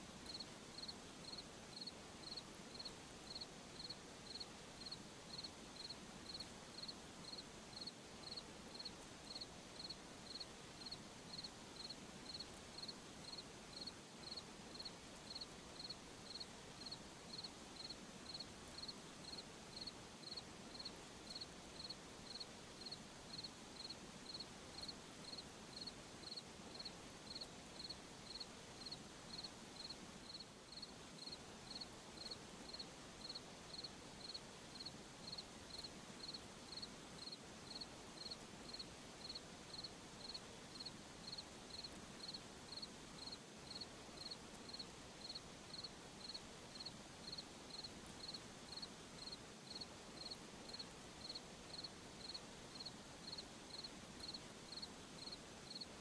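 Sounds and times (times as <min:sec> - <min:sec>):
faint steady hiss: 0:00.0 - 0:56.0
cricket chirping: 0:00.3 - 0:55.9.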